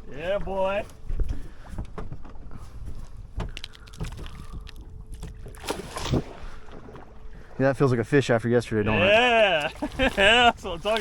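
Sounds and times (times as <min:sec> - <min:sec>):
low wind rumble: 0:00.0 - 0:09.0.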